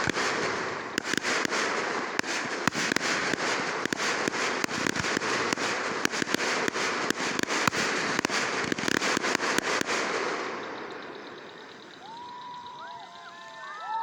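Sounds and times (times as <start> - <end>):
fireworks popping and crackling: 0.0 - 14.0.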